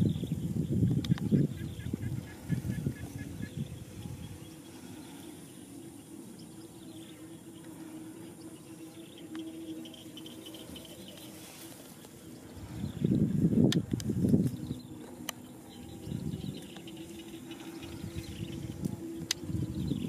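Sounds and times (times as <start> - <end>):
faint insect chirping: 0.0 - 20.0
low steady hum: 0.0 - 20.0.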